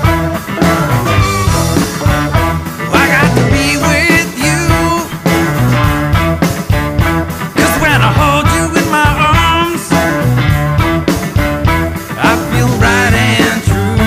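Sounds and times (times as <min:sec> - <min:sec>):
wavering lead melody: 0:00.0 - 0:13.5
rock music with guitar: 0:00.0 - 0:14.0.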